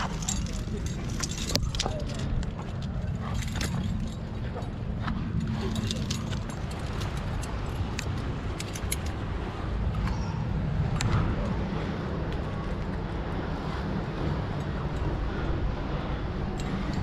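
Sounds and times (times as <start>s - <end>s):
climbing gear clinking: 0.0s - 11.6s, 13.8s - 17.0s
steady low rumble: 0.0s - 17.0s.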